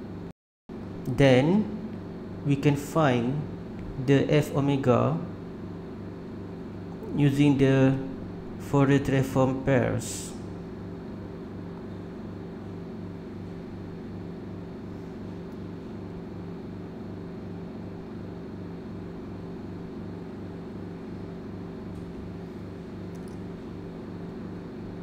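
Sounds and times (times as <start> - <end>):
pulsing machine hum: 0.0 - 25.0.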